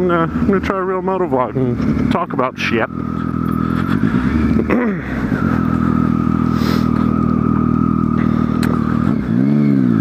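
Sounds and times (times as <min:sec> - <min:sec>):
steady high whine: 0:00.0 - 0:09.5
motorcycle engine running: 0:00.0 - 0:10.0.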